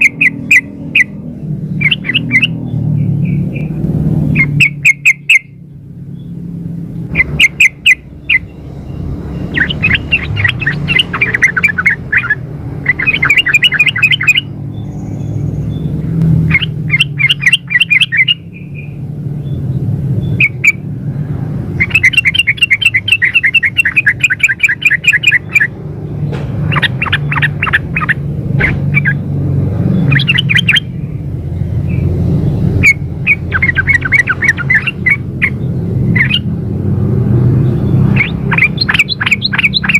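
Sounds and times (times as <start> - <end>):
bird chattering calls: 0.0 - 5.6, 7.0 - 20.9, 21.6 - 36.6, 37.6 - 39.9.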